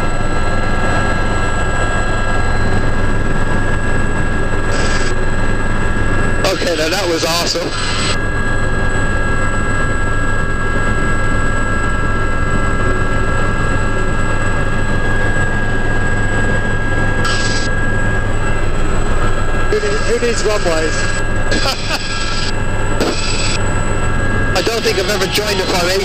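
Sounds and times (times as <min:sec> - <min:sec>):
helicopter engine whine: 0:00.0 - 0:26.0
rotor drone: 0:00.0 - 0:26.0.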